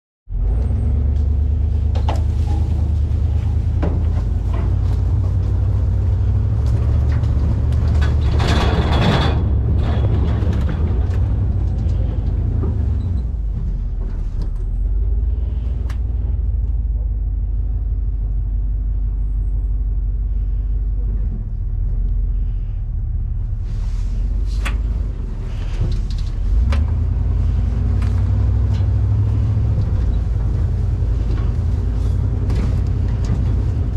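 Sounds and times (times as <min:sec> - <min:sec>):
pickup truck engine running: 0:00.3 - 0:33.9
knocks and rattles: 0:00.4 - 0:18.4, 0:24.6 - 0:33.9.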